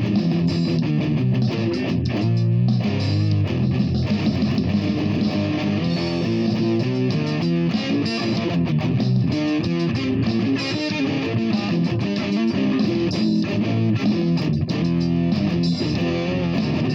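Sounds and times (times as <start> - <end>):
guitar playing fast notes: 0.0 - 16.9.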